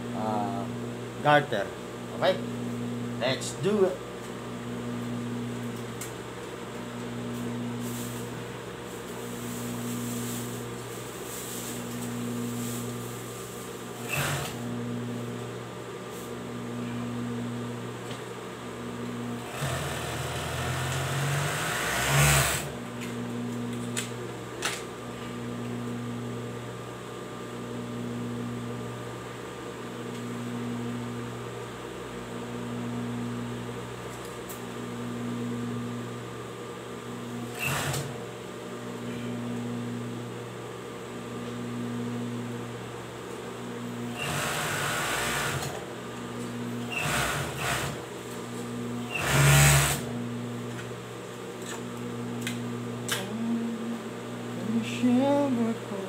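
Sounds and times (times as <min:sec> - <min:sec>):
overlock machine humming: 0:00.0 - 0:56.0.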